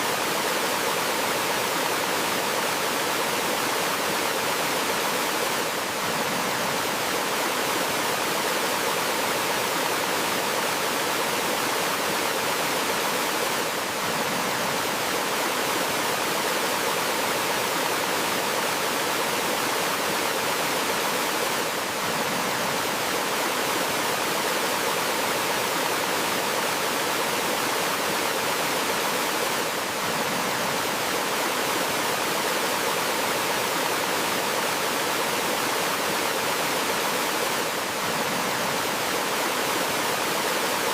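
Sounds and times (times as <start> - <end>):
stream over small waterfall: 0.0 - 40.9.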